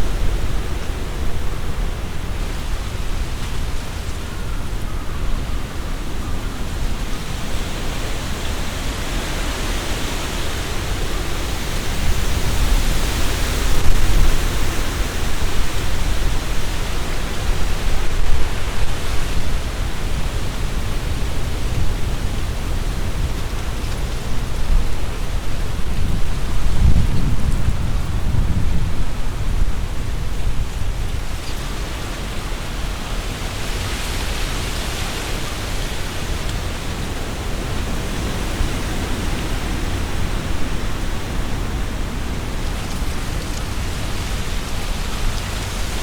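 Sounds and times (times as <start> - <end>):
gusty wind through trees: 0.0 - 46.0
leaves rustling: 0.0 - 46.0.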